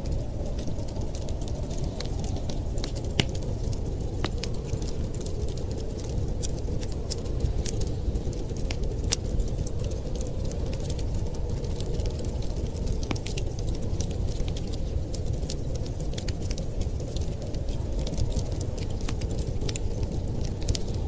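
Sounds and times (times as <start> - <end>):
fire rumbling rush: 0.0 - 21.0
wood fire crackling and popping: 0.0 - 21.0.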